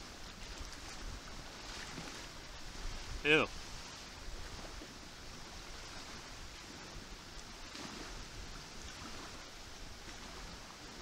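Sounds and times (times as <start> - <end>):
water: 0.0 - 11.0
wind: 0.0 - 11.0.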